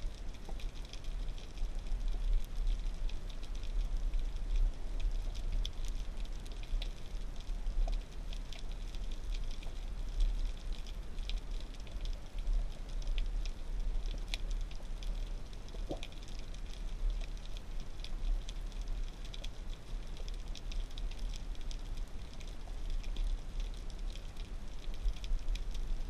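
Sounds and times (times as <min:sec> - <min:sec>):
crackling clicks: 0:00.0 - 0:26.0
underwater low rumble: 0:00.0 - 0:26.0.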